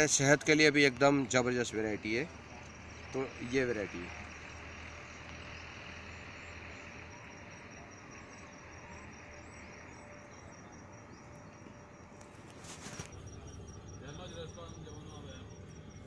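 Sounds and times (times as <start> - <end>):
cricket chirping trill: 0.0 - 16.0.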